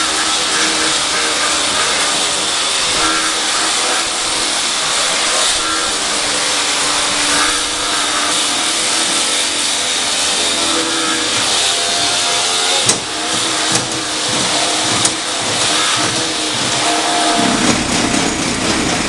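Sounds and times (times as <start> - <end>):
paving block machine running: 0.0 - 19.0.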